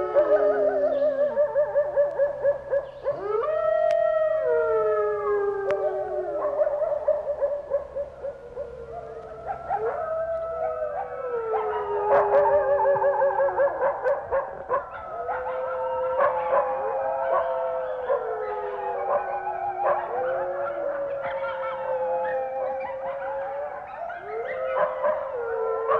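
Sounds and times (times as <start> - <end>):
canids howling in chorus: 0.0 - 25.9.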